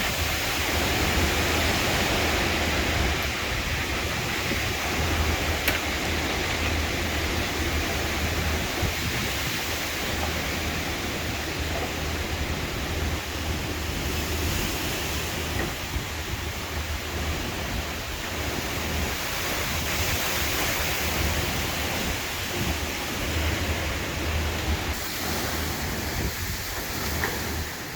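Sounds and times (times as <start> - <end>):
strong wind blowing: 0.0 - 27.9
wind buffeting microphone: 0.0 - 27.9.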